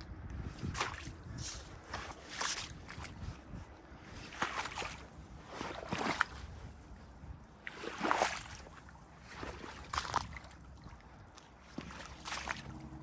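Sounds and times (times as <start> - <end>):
footsteps wading through water: 0.3 - 13.0.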